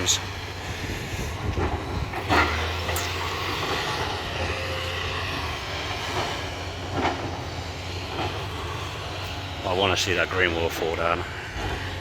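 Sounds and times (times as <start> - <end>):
machine engine droning: 0.0 - 12.0.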